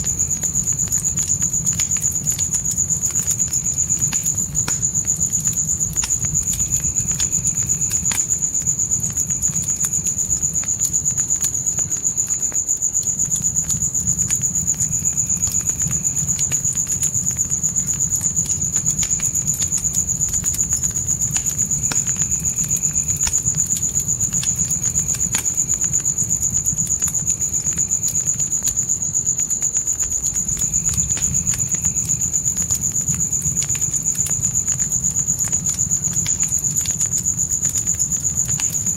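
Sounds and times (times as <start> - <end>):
crickets trilling: 0.0 - 38.9
fire popping and snapping: 0.0 - 38.9
low rumble of flames: 0.0 - 38.9.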